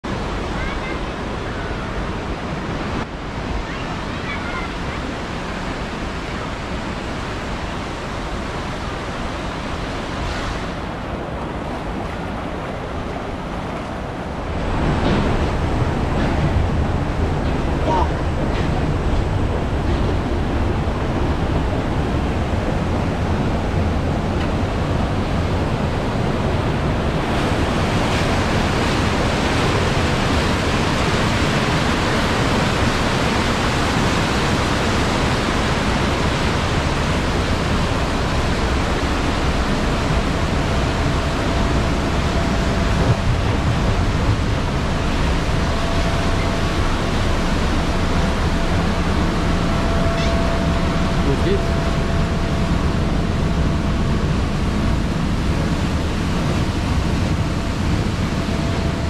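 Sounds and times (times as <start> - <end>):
rushing churning water: 0.0 - 59.0
wind rumble on microphone: 6.8 - 59.0.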